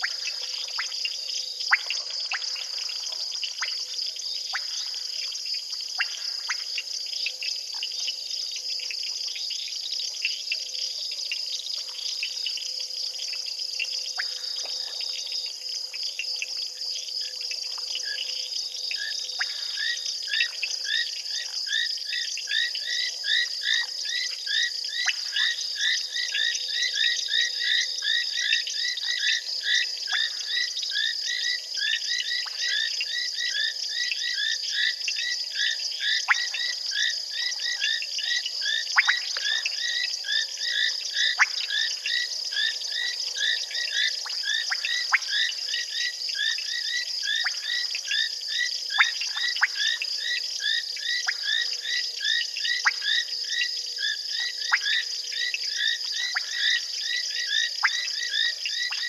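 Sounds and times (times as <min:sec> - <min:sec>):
frogs calling in chorus: 0:11.4 - 0:59.0.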